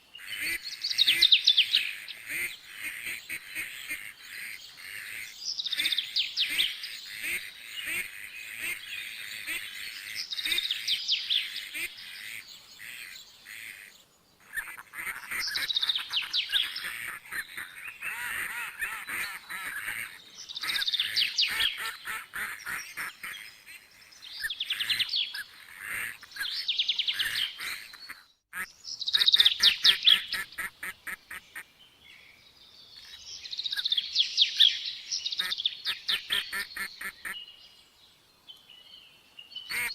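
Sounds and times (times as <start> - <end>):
birds calling and chattering: 0.0 - 39.9.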